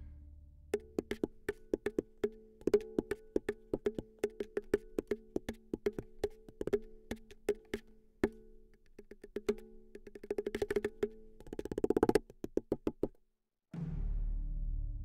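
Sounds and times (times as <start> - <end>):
woody ukulele drum taps: 0.7 - 13.2.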